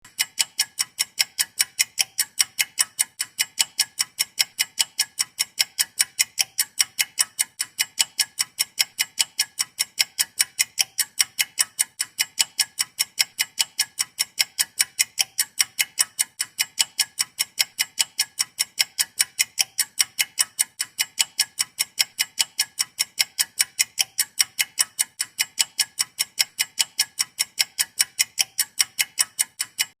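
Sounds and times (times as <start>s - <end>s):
stopwatch ticking: 0.0s - 30.0s.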